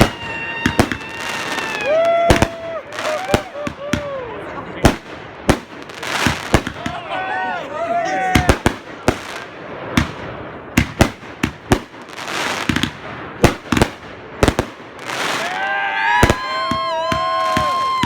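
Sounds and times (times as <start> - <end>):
fireworks banging and popping: 0.0 - 4.2, 4.8 - 7.1, 8.3 - 18.0
hissing crackle of fireworks: 0.0 - 7.0, 8.2 - 18.0.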